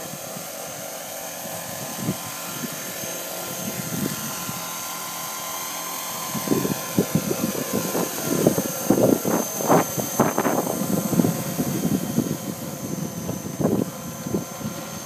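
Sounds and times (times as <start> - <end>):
low buffeting bursts: 0.0 - 15.0
model helicopter whine: 0.0 - 15.0.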